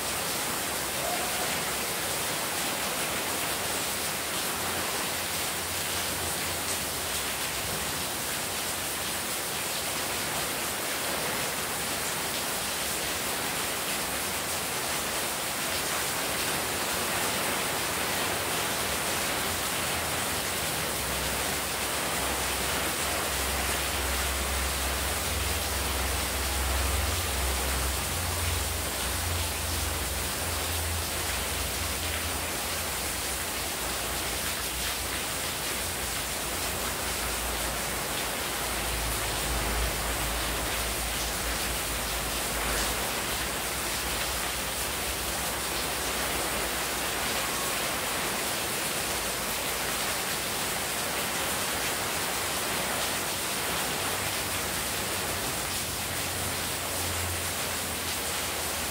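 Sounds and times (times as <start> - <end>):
heavy rain falling: 0.0 - 58.9
water pouring and splashing: 0.0 - 58.9.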